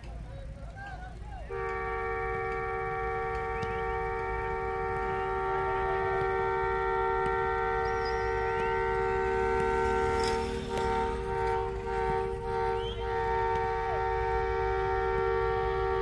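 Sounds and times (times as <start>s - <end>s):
locomotive horn blast: 1.5s - 16.0s.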